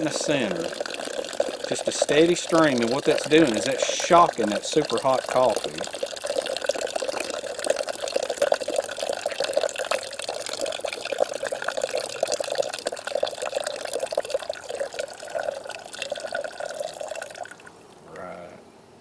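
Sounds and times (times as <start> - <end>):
water pouring into coffee pot: 0.0 - 17.8.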